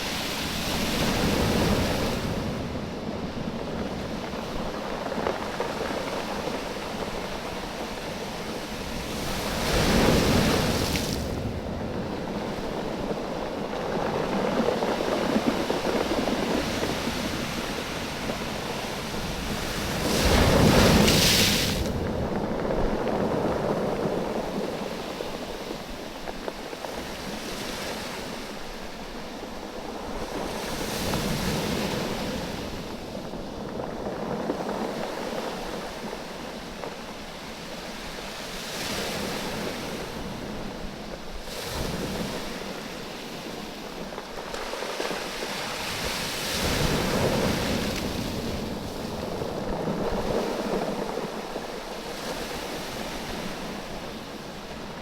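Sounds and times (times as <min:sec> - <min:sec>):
waves washing over stones: 0:00.0 - 0:55.0.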